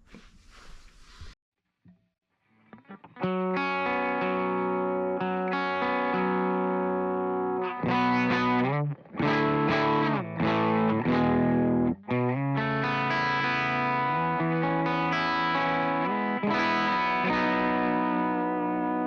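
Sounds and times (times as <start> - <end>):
distorted electric guitar chords: 2.8 - 19.0.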